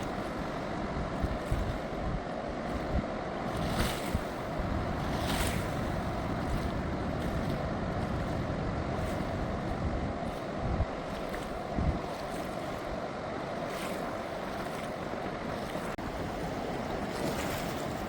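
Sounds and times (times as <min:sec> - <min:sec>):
river water rushing: 0:00.0 - 0:18.0
wind buffeting microphone: 0:00.0 - 0:18.0.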